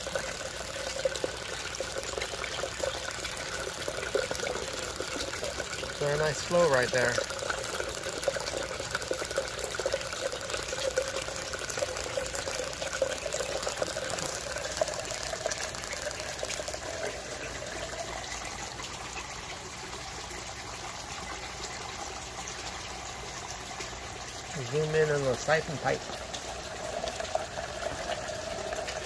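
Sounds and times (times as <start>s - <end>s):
water pouring into a pipe: 0.0s - 29.0s.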